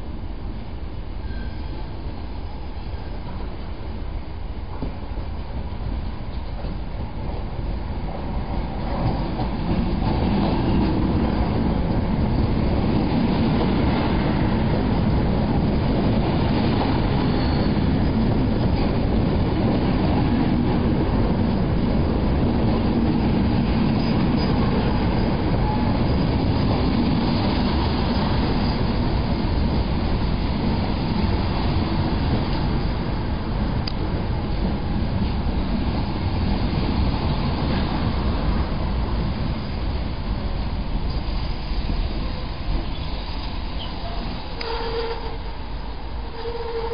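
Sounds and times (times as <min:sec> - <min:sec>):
train wheels on rails: 0:00.0 - 0:46.9.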